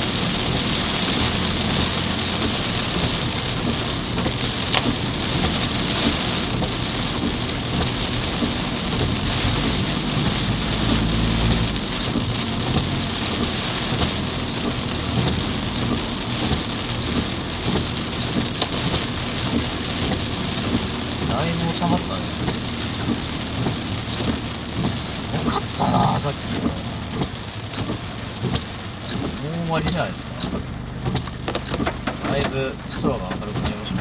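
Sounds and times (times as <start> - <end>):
heavy rain on a car: 0.0 - 34.0
sharp ticks of raindrops: 0.0 - 34.0.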